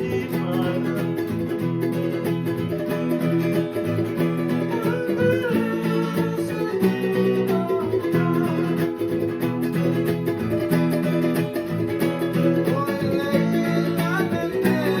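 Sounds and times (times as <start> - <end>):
strummed guitars and ukulele: 0.0 - 15.0.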